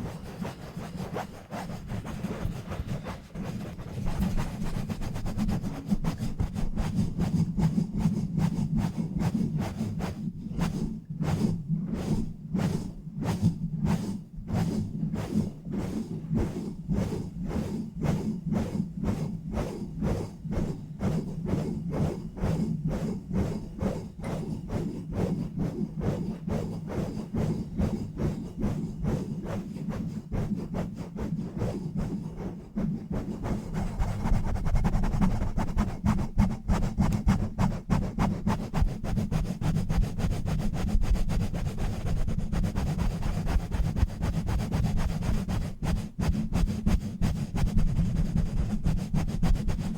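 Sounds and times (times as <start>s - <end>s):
fingers rubbing on a microphone: 0.0s - 49.9s.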